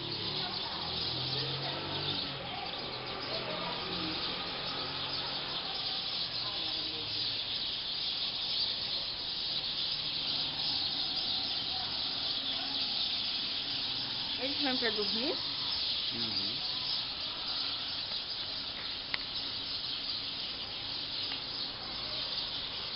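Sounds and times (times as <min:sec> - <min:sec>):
flock of birds chattering: 0:00.0 - 0:22.9.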